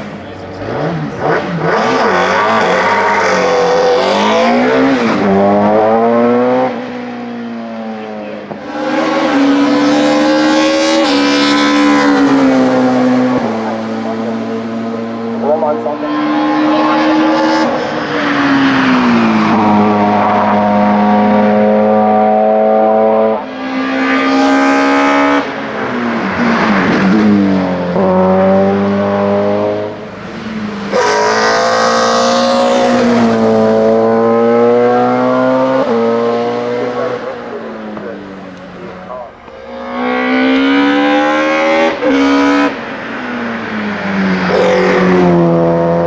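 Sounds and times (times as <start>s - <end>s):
race car engine at full throttle: 0.0s - 46.0s.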